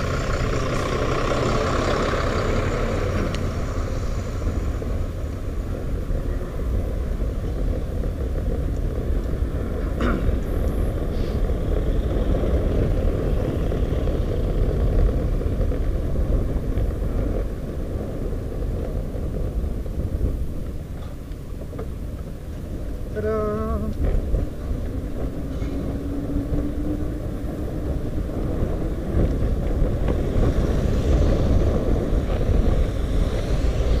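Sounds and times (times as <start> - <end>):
cars passing: 0.0 - 34.0
tyre and road rumble: 0.0 - 34.0
wind noise: 0.0 - 34.0.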